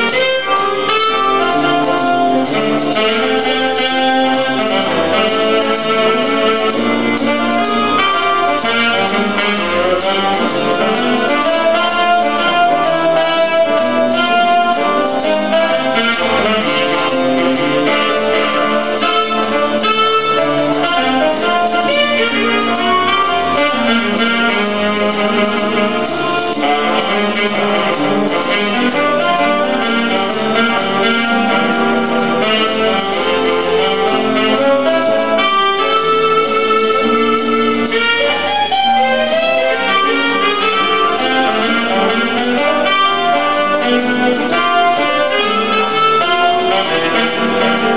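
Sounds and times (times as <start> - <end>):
melody of held notes: 0.0 - 47.9
piano accompaniment: 0.0 - 47.9.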